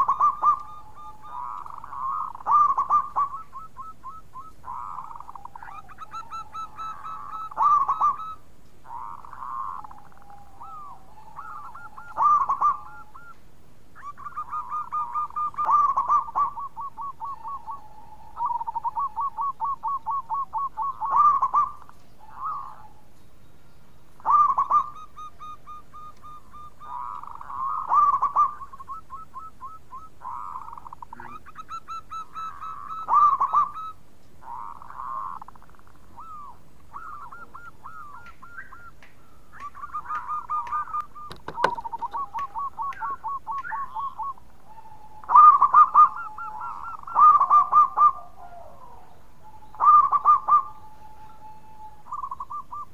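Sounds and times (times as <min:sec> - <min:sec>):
dove cooing: 0:00.0 - 0:13.4, 0:14.0 - 0:23.1, 0:24.2 - 0:52.9.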